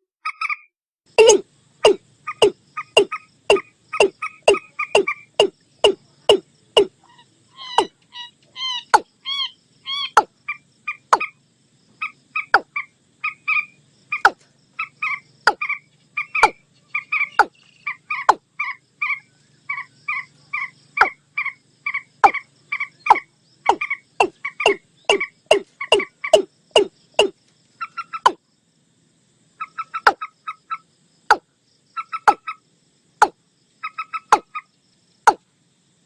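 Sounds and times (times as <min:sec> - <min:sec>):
bird clucking notes: 0:01.2 - 0:11.4, 0:12.0 - 0:28.4, 0:29.6 - 0:31.4, 0:32.0 - 0:32.6, 0:33.2 - 0:34.7
sharp falling bird calls: 0:01.2 - 0:11.4, 0:12.0 - 0:28.4, 0:29.6 - 0:31.4, 0:32.0 - 0:32.6.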